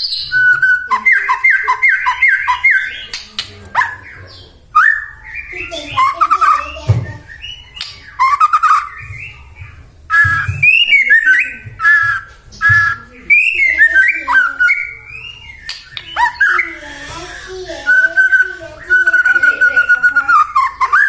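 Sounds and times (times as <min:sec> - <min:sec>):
bird singing whistled phrases: 0:00.0 - 0:16.8, 0:17.8 - 0:21.0.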